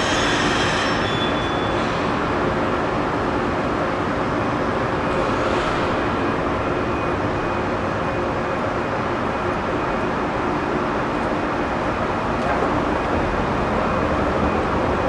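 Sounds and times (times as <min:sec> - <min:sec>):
train equipment humming: 0:02.2 - 0:15.0.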